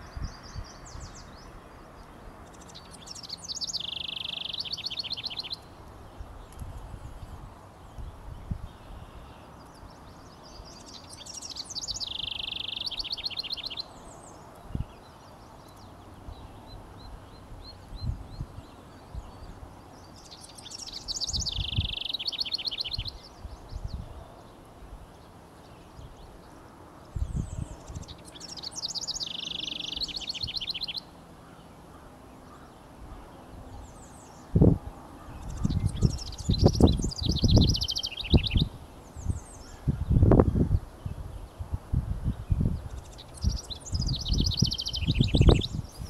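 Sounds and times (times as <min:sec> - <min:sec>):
wren singing: 0:00.0 - 0:41.7, 0:42.3 - 0:46.0.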